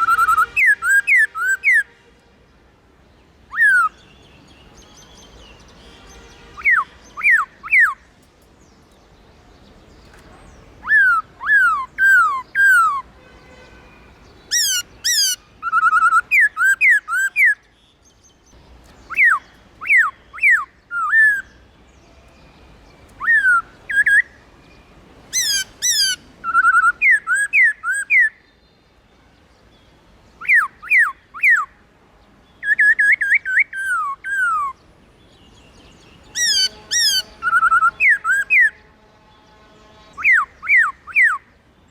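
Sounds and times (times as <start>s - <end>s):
bird singing whistled notes: 0.0s - 1.9s, 3.5s - 8.8s, 10.8s - 13.1s, 14.3s - 28.9s, 29.8s - 31.7s, 32.6s - 38.8s, 39.5s - 41.9s.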